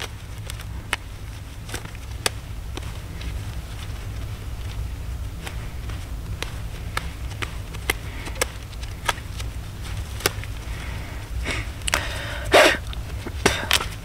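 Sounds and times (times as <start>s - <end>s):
feathers being plucked: 0.0s - 14.0s.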